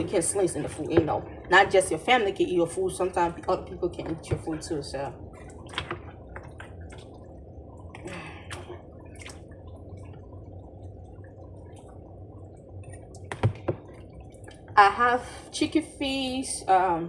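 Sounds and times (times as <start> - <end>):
stew bubbling in a pot: 0.0 - 16.4.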